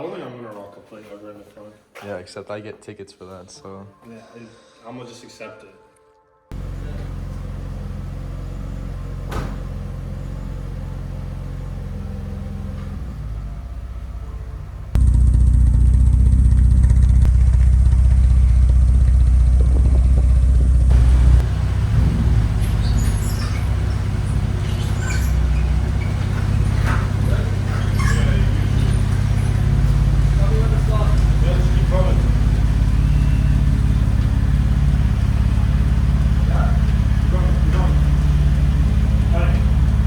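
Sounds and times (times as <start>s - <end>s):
car engine running: 6.5s - 40.0s.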